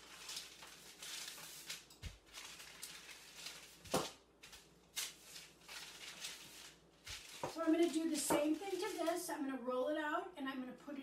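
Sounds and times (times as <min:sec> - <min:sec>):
parchment paper rustling: 0:00.0 - 0:09.4.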